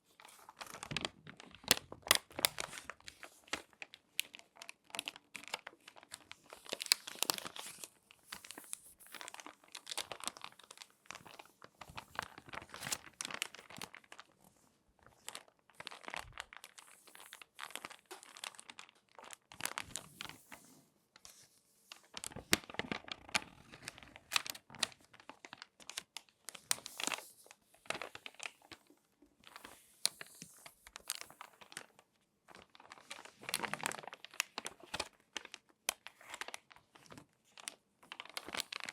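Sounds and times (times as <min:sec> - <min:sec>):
magazine pages crinkling: 0:00.0 - 0:14.4, 0:15.0 - 0:38.9.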